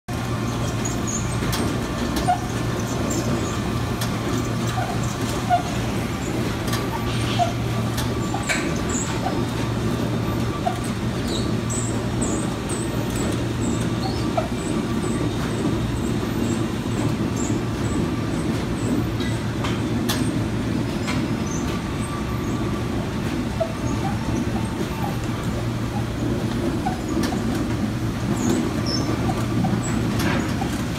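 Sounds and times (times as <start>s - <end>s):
machinery hum and rumble: 0.1s - 30.9s.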